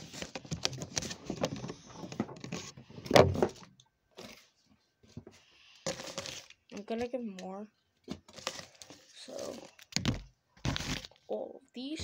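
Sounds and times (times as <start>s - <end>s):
rustling and clattering of items: 0.0s - 11.3s.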